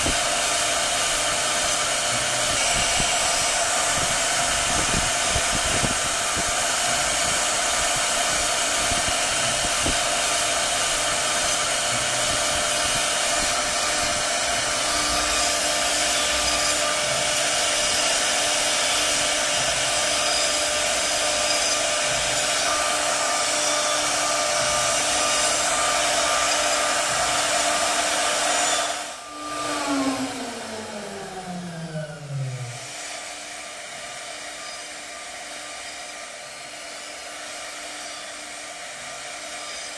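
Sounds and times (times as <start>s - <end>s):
power tool cutting wood: 0.0s - 39.9s.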